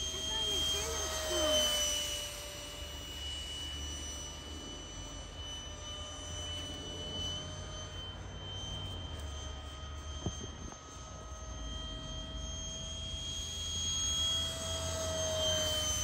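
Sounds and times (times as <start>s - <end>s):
electric ducted fan whine: 0.0s - 16.0s.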